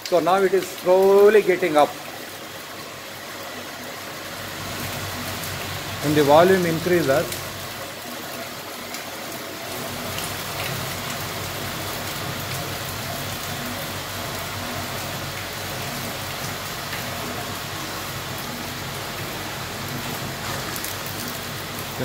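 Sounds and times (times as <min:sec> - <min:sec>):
water spattering and splashing: 0:00.0 - 0:22.0.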